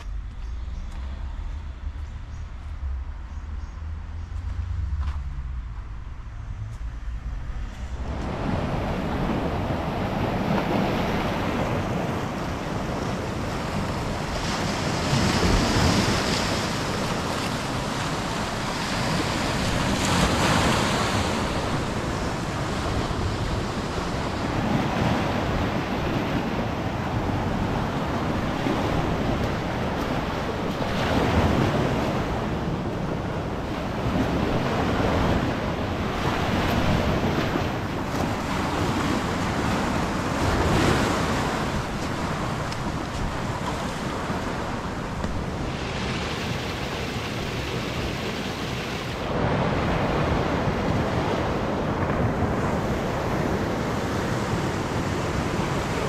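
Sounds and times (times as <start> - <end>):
wind buffeting microphone: 0.0 - 56.0
sea surf washing onto shore: 7.8 - 56.0.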